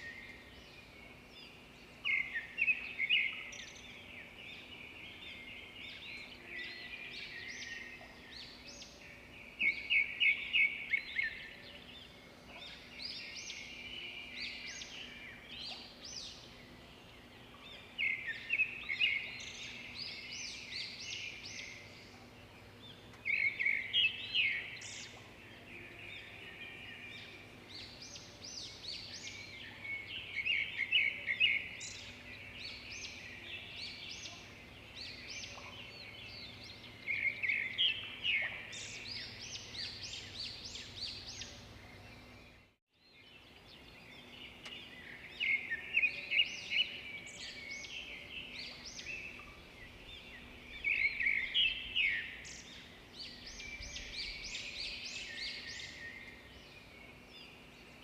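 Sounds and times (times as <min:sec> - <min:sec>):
faint steady background noise: 0:00.0 - 0:58.0
songbirds chirping and trilling: 0:00.0 - 0:58.0.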